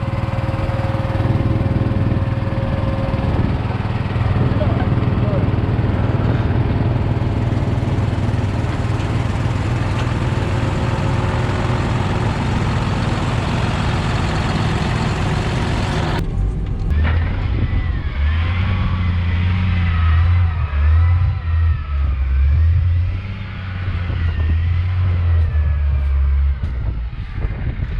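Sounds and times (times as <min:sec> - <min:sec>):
engine running: 0:00.0 - 0:27.9
tractor engine running: 0:00.0 - 0:27.9
wavering whine: 0:00.0 - 0:27.9.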